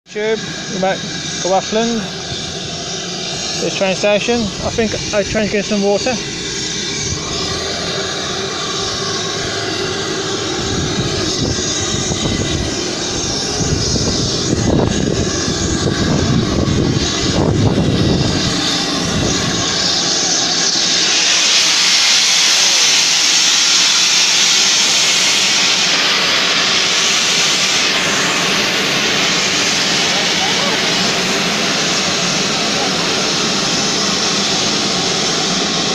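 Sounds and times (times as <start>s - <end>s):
steam locomotive rushing noise: 0.0s - 35.9s
loud hiss of escaping steam: 0.1s - 35.9s.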